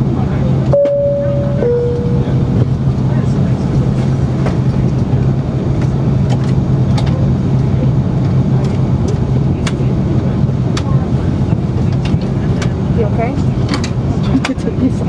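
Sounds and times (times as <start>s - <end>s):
airplane cabin hum: 0.0s - 15.0s.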